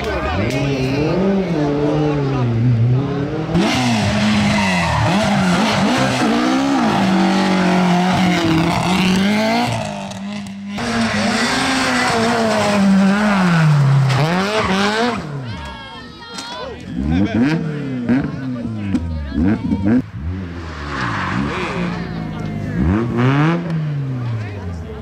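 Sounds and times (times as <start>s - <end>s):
rally car engines revving: 0.0s - 15.8s, 16.8s - 25.0s.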